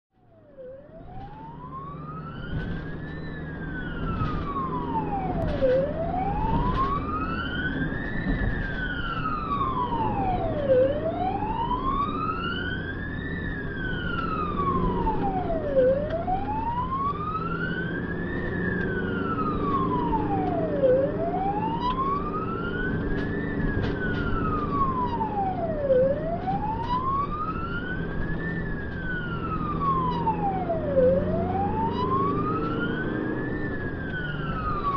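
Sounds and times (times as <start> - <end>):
engine and road noise: 0.1 - 34.9
ambulance siren wailing: 0.2 - 34.9.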